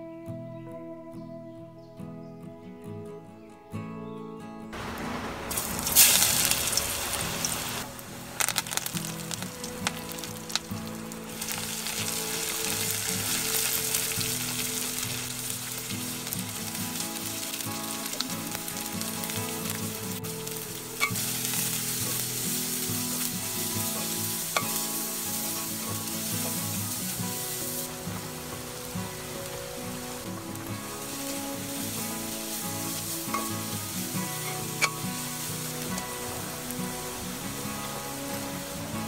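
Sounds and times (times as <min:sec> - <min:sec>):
garlic and onions sizzling in oil: 0:04.8 - 0:39.0.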